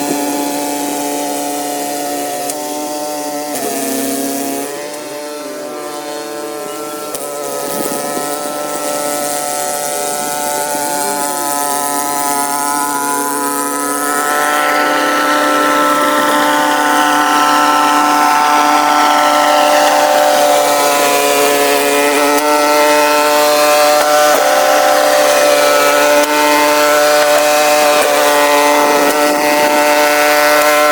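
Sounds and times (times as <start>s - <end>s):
high-pitched sped-up snowblower engine: 0.0s - 30.9s.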